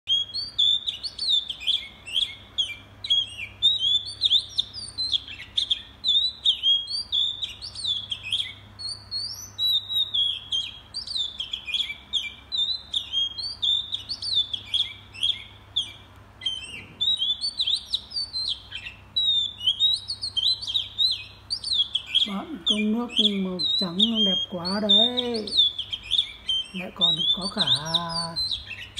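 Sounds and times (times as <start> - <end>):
songbird singing: 0.1 - 28.9.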